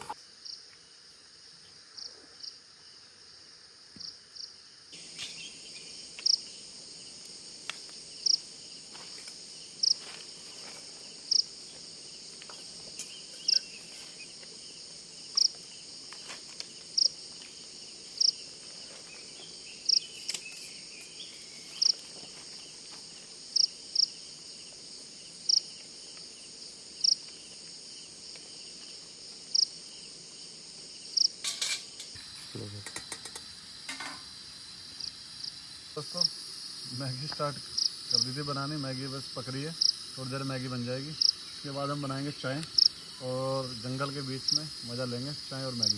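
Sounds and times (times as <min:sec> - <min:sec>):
crickets trilling: 0:00.0 - 0:45.9
loud high insect chirp: 0:00.0 - 0:45.9.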